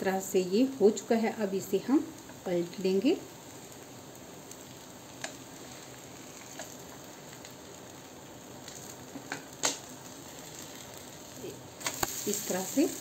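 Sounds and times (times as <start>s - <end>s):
batter sizzling in oil: 0.0s - 13.0s.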